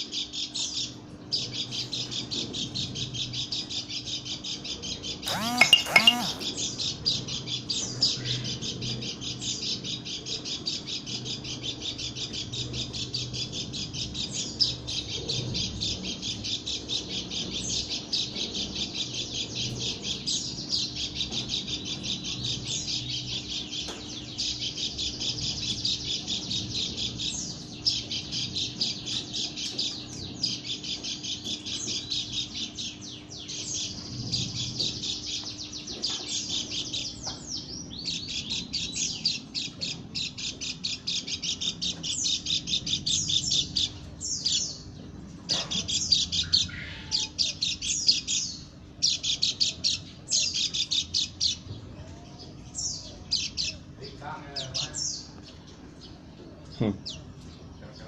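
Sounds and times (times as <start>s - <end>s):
bird chirping and trilling: 0.1s - 58.0s.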